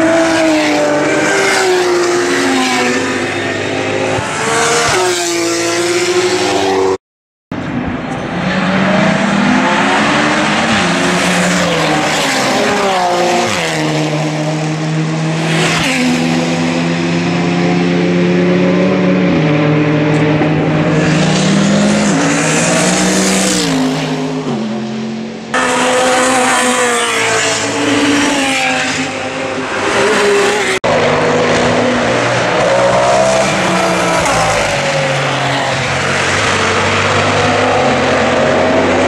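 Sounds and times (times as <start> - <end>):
race cars passing close by: 0.0 - 7.0, 7.6 - 39.0.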